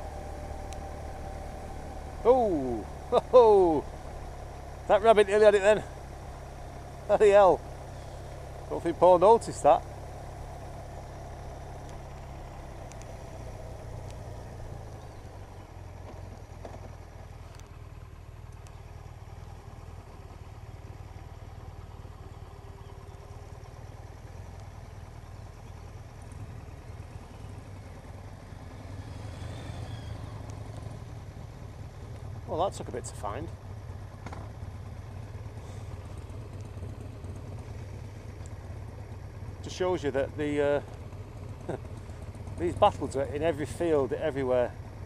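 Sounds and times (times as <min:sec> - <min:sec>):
motorcycle engine running: 0:00.0 - 0:45.0
road noise: 0:00.0 - 0:45.0.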